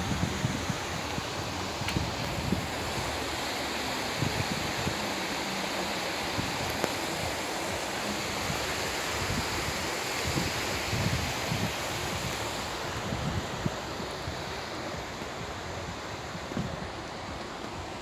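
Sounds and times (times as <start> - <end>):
rushing hiss of outdoor air: 0.0 - 18.0
wind buffeting microphone: 0.0 - 18.0.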